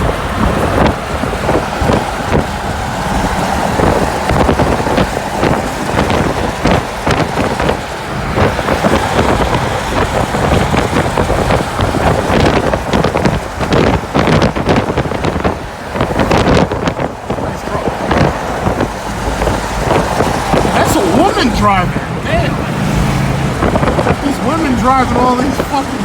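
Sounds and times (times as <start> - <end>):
road traffic rumble: 0.0 - 26.0
wind buffeting microphone: 0.0 - 26.0.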